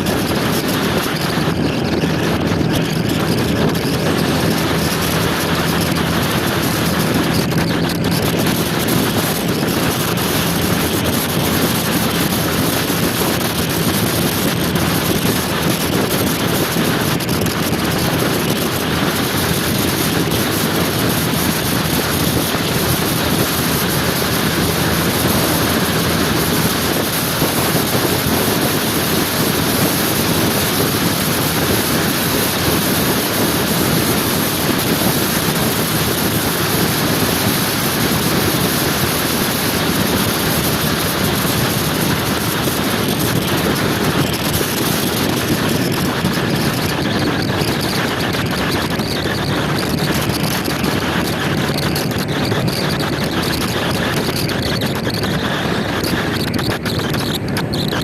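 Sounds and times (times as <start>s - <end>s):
motor scooter engine running: 0.0s - 58.0s
wind on microphone: 0.0s - 58.0s.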